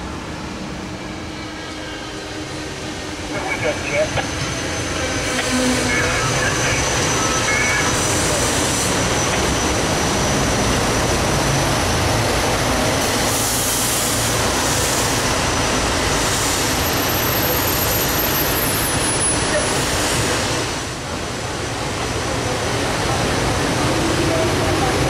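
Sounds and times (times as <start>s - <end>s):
train passing close by: 0.0s - 25.0s.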